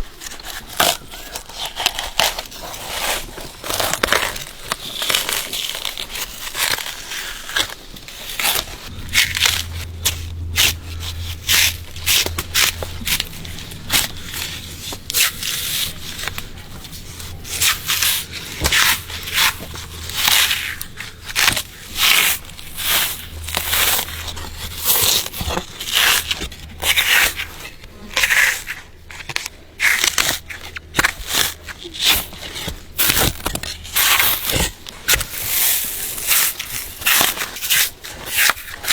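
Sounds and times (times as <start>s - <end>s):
bark tearing and crackling: 0.0s - 38.9s
low steady hum: 0.0s - 38.9s.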